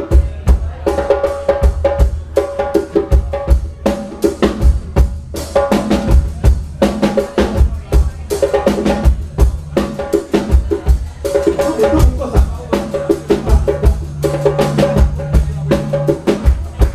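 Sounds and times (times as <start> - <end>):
band playing live: 0.0 - 16.9.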